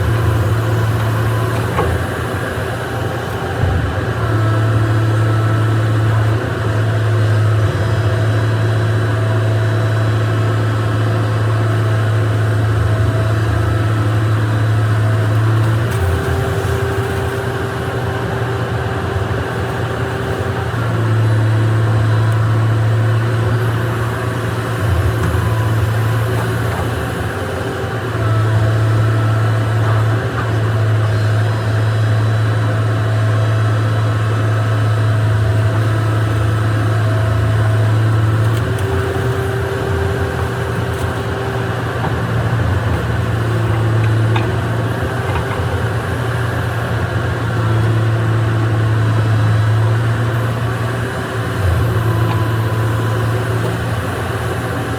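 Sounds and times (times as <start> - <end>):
excavator diesel engine hum: 0.0 - 54.9.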